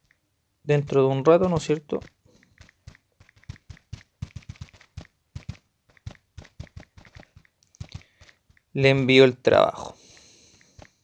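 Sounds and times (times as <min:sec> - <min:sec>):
fingertips tapping touchscreen: 0:00.0 - 0:11.0.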